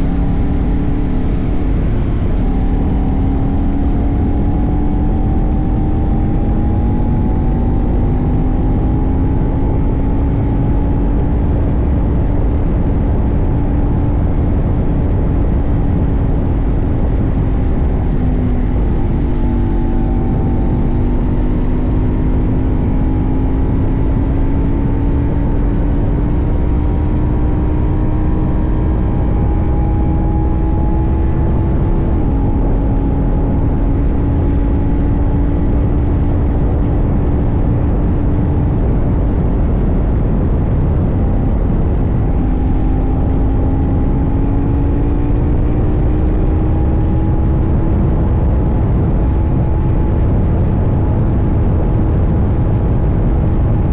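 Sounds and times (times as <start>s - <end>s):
motorcycle engine running: 0.0s - 53.9s
road rush: 0.0s - 53.9s
wind: 0.0s - 53.9s.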